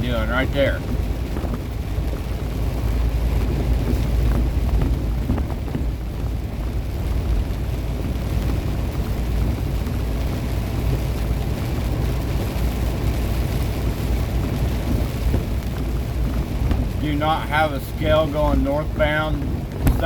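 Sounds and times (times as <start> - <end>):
truck engine and tyres on wet road: 0.0 - 20.0.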